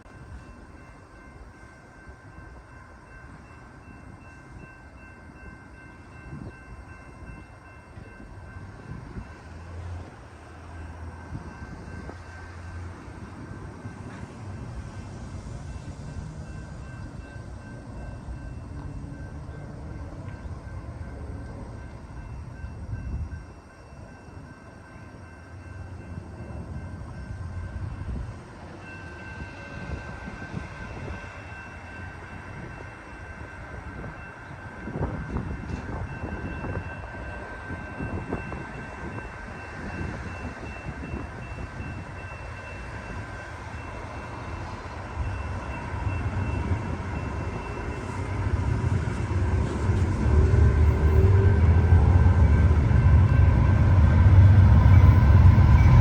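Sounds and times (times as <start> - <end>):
distant freight train rumble: 0.0 - 56.0.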